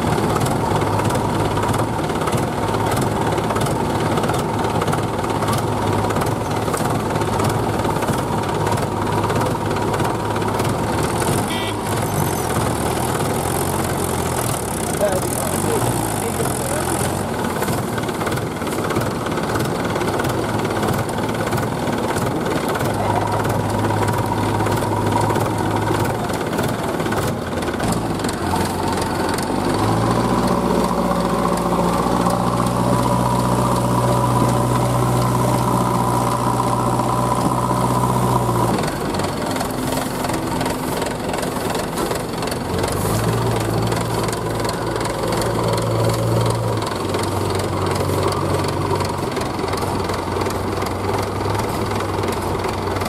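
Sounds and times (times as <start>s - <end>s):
diesel engines under load: 0.0s - 53.0s.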